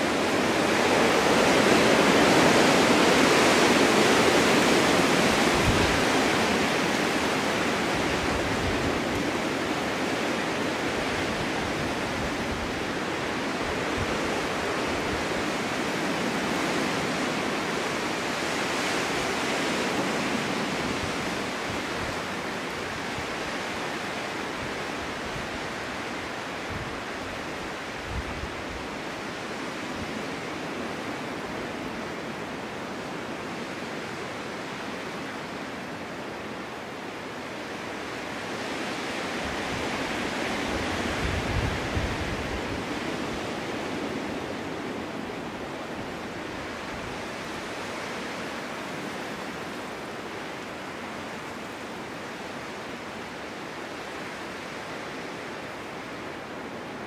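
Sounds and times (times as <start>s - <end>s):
snowstorm wind blowing: 0.0s - 57.0s.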